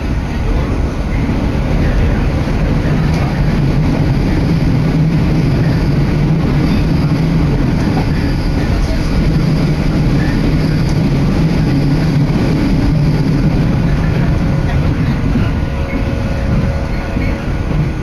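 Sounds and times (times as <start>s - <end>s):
moving train rumble: 0.0s - 18.0s.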